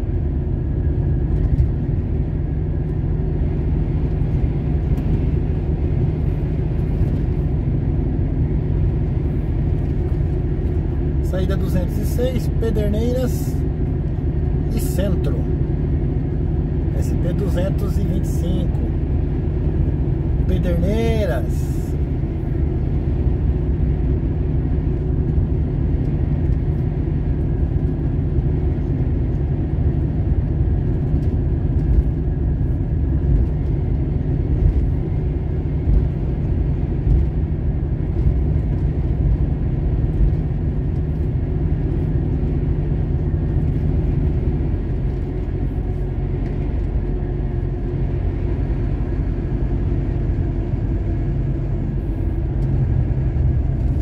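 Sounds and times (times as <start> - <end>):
truck diesel engine running: 0.0 - 54.0
tyre and road noise: 0.0 - 54.0.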